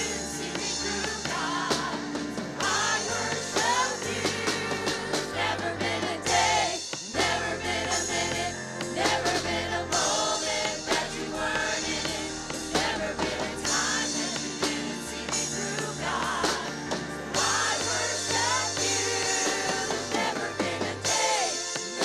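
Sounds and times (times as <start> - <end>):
church praise band playing: 0.0 - 22.0
singers singing: 0.0 - 22.0.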